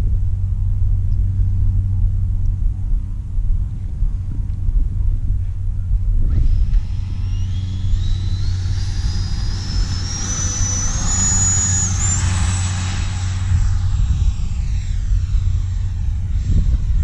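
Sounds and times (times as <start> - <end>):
electric ducted fan whine: 0.0 - 17.0
low rumble: 0.0 - 17.0.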